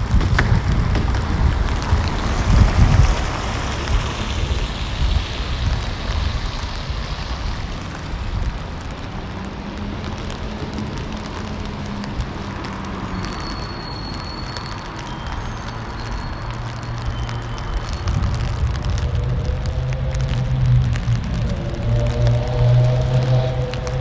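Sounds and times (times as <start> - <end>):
car rumbling on wet street: 0.0 - 24.0
rain on wet paving: 0.0 - 24.0.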